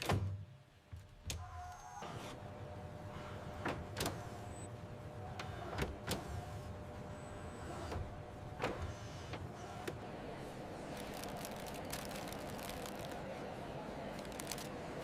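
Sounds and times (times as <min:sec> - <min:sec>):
steady mechanical hum: 0:00.1 - 0:15.0.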